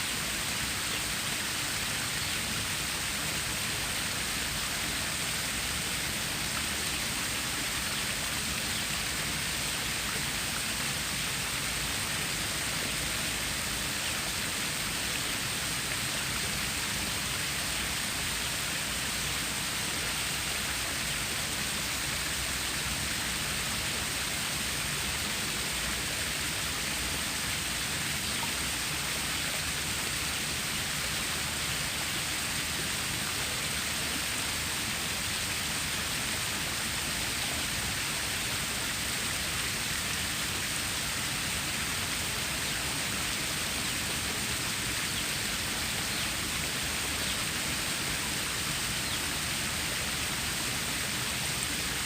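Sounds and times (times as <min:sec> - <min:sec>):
water stream flowing: 0:00.0 - 0:52.0.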